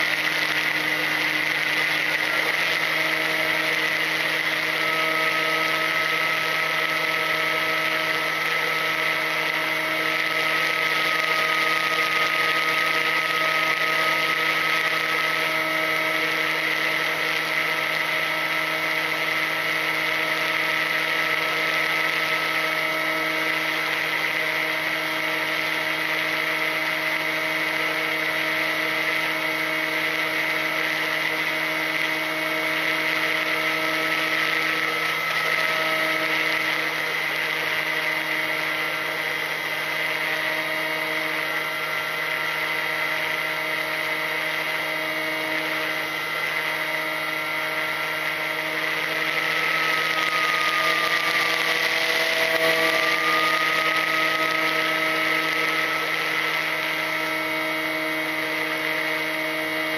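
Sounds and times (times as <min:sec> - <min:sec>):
electric motor and propeller whining: 0:00.0 - 0:59.9.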